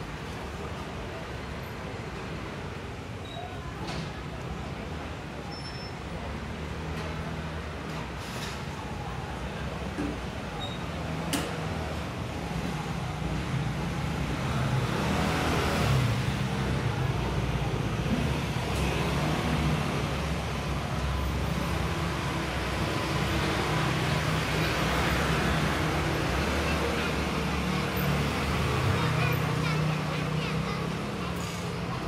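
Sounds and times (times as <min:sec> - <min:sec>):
passing vehicles rumbling: 0:04.0 - 0:32.0.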